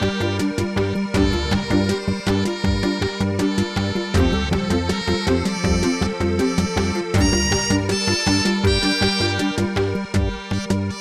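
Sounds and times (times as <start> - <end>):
music with beat and bass line: 0.0 - 11.0.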